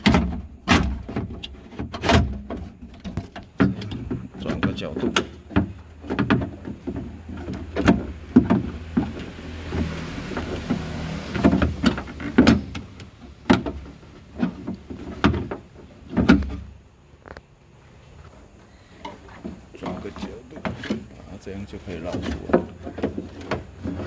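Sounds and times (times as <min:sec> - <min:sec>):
metal knocks and clanks: 0:00.0 - 0:16.8, 0:19.0 - 0:24.0.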